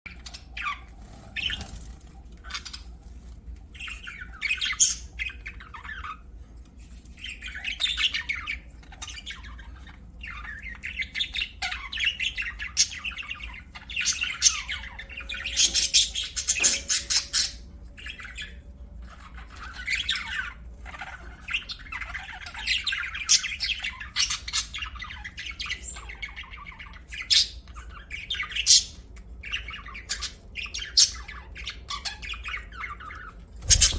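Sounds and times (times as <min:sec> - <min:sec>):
budgerigars chirping and squawking: 0:00.1 - 0:33.9.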